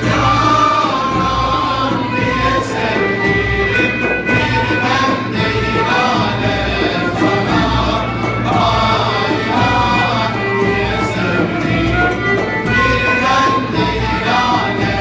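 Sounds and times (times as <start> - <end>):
frame drum: 0.0 - 15.0
male choir singing: 0.0 - 15.0
violin: 0.0 - 15.0.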